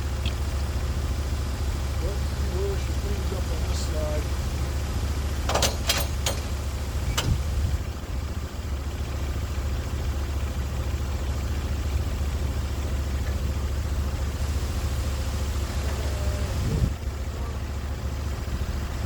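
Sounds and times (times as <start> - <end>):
sawmill engine droning: 0.0 - 19.0.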